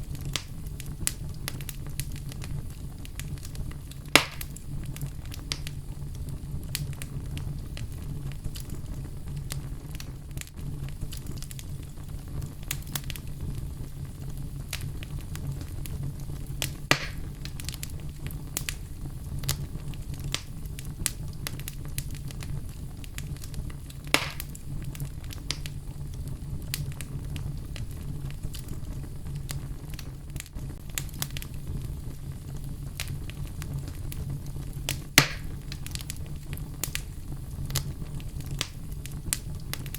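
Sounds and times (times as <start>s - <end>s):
loud fire snaps: 0.0s - 39.9s
wood fire crackling: 0.0s - 39.9s.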